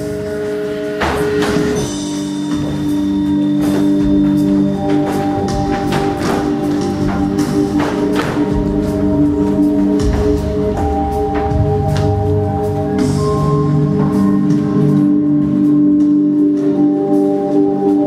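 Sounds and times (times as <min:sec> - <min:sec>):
music with long held tones: 0:00.0 - 0:18.0.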